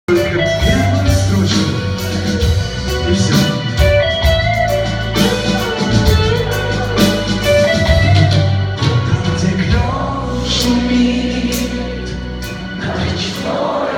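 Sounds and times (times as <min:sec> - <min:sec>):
band playing instrumental: 0:00.1 - 0:13.9
steady drum beat: 0:00.1 - 0:13.9.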